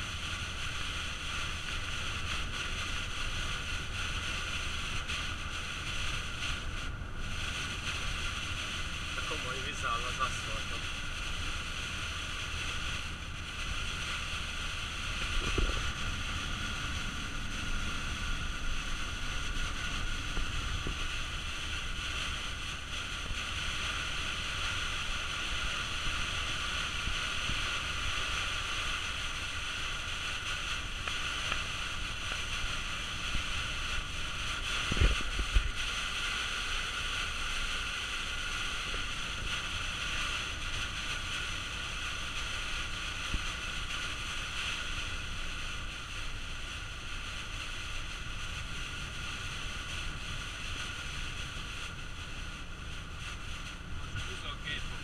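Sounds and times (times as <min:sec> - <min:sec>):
rain and spray on van: 0:00.0 - 0:55.0
van engine and tyres: 0:00.0 - 0:55.0.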